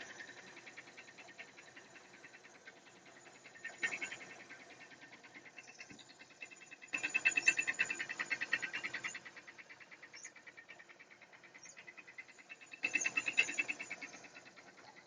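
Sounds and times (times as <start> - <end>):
rapid metallic ticking: 0.0 - 15.0.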